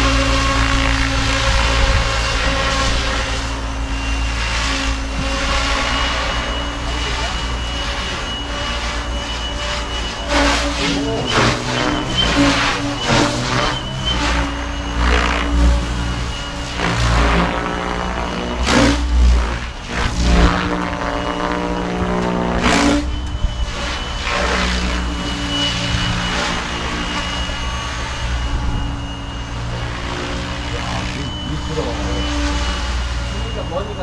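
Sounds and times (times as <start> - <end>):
motor and gear whine: 0.0 - 34.0
rotor blades swishing: 0.0 - 34.0.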